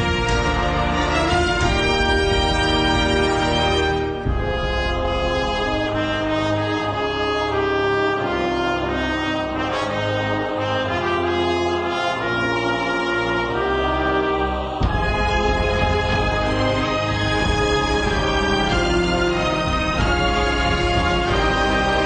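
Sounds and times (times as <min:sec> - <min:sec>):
brass-led orchestral music: 0:00.0 - 0:22.0.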